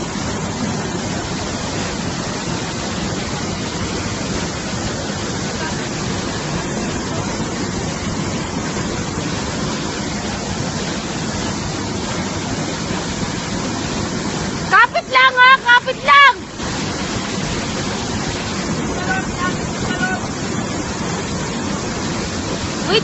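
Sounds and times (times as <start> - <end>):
river rushing over waterfall: 0.0 - 23.0.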